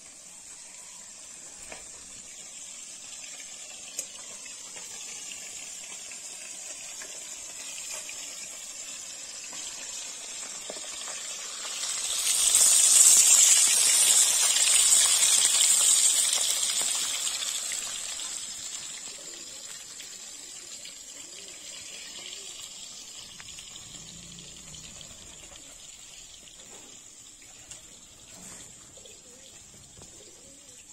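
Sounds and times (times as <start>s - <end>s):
fish sizzling in hot oil: 0.0s - 30.9s.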